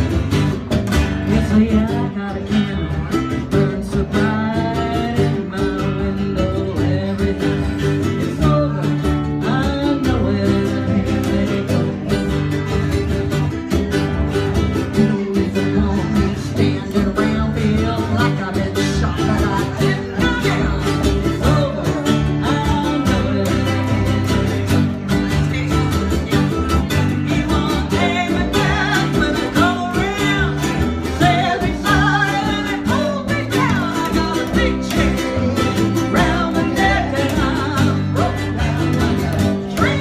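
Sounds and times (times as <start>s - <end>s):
country music with guitar: 0.0s - 40.0s
person singing: 1.0s - 40.0s.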